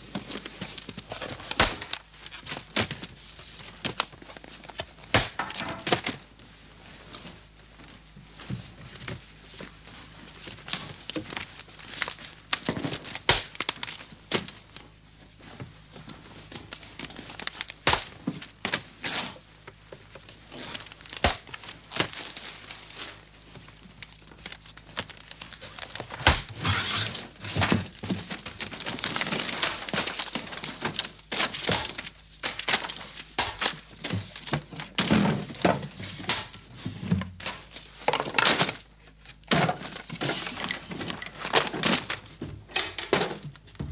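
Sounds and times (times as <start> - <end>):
paper and cardboard rustling: 0.0 - 42.4.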